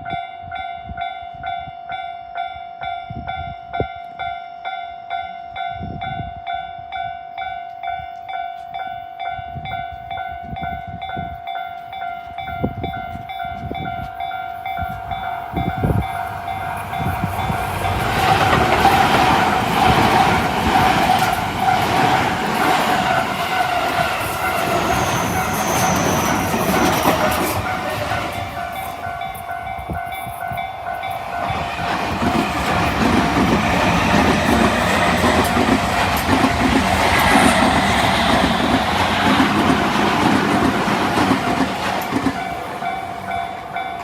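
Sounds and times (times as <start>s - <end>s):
train passing with wheel clatter: 0.0s - 44.0s
level-crossing alarm ringing: 7.3s - 44.0s.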